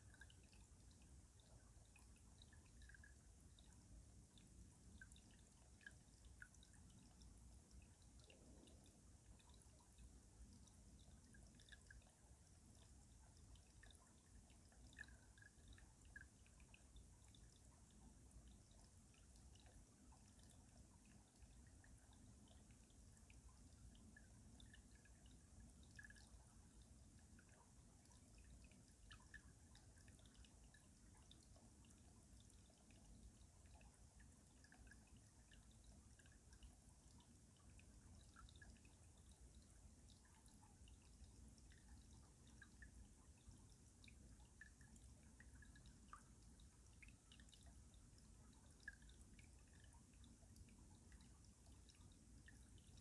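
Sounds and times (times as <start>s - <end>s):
water dripping and trickling: 0.0s - 53.0s.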